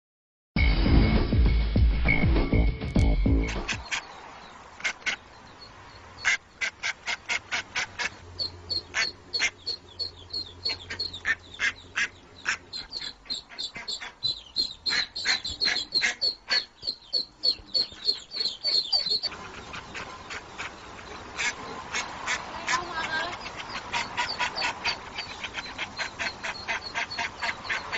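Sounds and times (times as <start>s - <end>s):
duck quacking: 3.3s - 4.2s, 4.8s - 5.3s, 6.2s - 27.9s.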